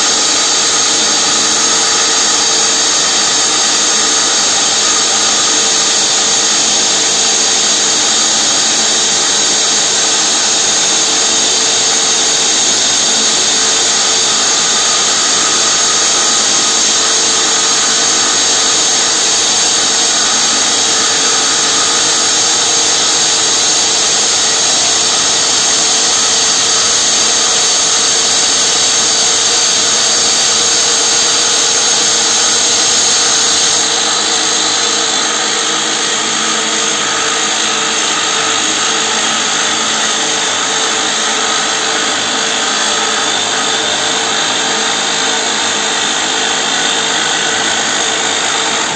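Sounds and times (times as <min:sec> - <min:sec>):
rock drill drilling: 0:00.0 - 0:48.9.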